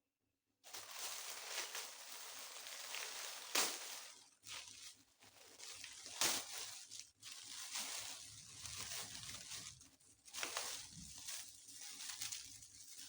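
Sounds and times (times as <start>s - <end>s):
packaging crackles: 0.7s - 13.0s
packaging rustling and crinkling: 0.7s - 13.0s.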